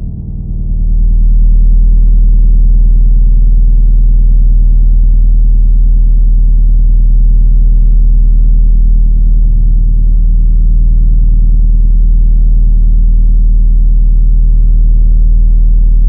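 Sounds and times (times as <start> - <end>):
loud low-pitched drone: 0.0 - 16.0.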